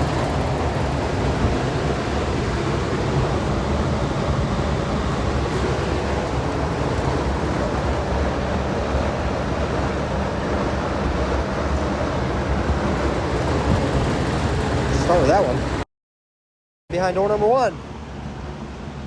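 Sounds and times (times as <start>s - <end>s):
machinery running with low rumble: 0.0s - 15.8s.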